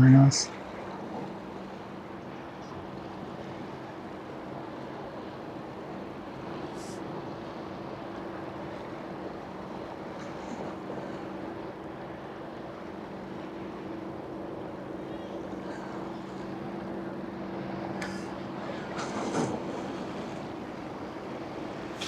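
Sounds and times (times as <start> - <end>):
boat engine droning: 0.0 - 22.0
water wash: 0.0 - 22.0.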